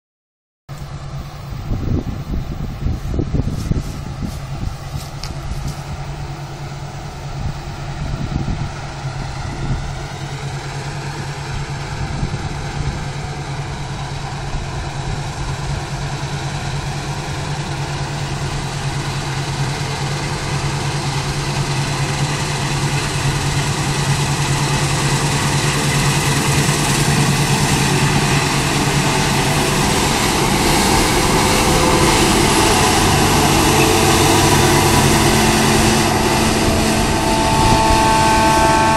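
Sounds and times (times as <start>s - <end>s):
combine harvester running: 0.7s - 38.9s.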